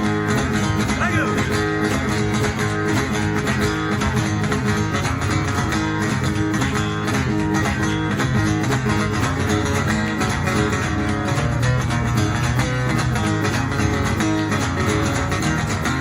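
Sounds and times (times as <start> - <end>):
strummed boogie guitar: 0.0 - 16.0.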